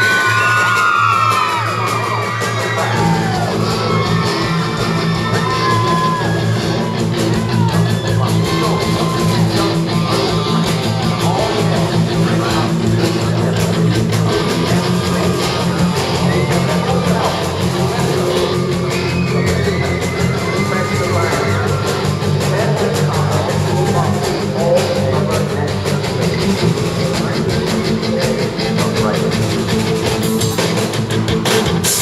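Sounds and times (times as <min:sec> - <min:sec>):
live rock band playing: 0:00.0 - 0:32.0
low bass notes: 0:00.0 - 0:32.0.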